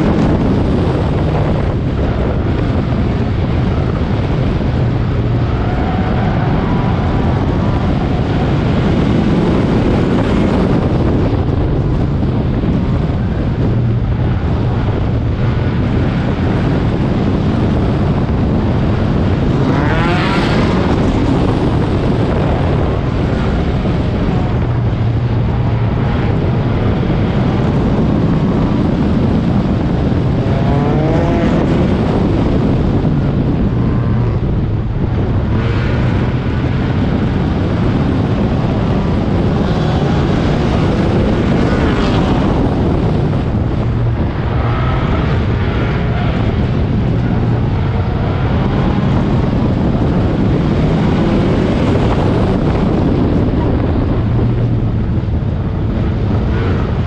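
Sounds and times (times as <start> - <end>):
race car engine revving: 0.0 - 57.0
wind buffeting microphone: 0.0 - 57.0.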